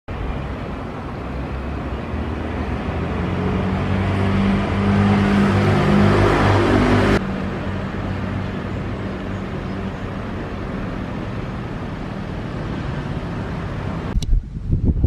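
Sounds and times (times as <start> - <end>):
jet engines rushing: 0.1 - 14.3.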